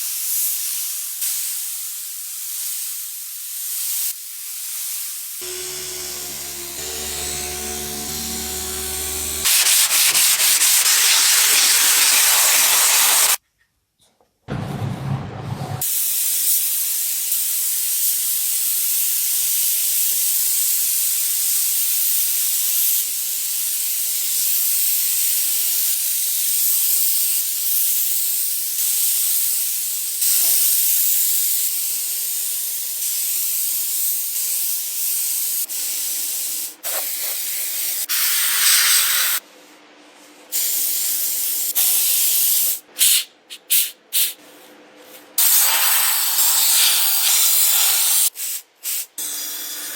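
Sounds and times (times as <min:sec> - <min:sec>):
paint spray gun hissing: 0:00.1 - 0:13.4, 0:16.0 - 0:39.4, 0:40.6 - 0:44.4, 0:45.4 - 0:49.2.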